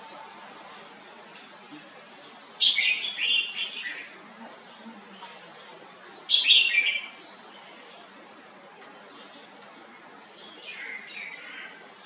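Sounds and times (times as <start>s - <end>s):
bird singing: 1.4s - 12.0s.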